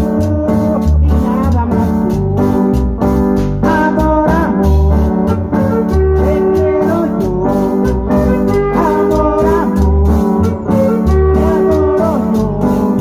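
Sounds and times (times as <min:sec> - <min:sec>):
live band playing loudly: 0:00.0 - 0:13.0
organ-like keyboard melody: 0:00.0 - 0:13.0.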